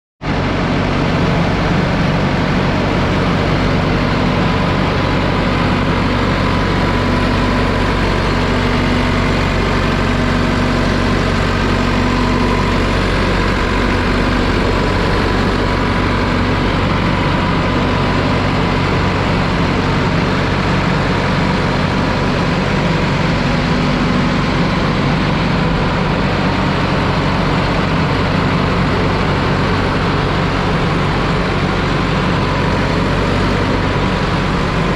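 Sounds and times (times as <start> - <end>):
diesel engine idling: 0.2 - 34.9.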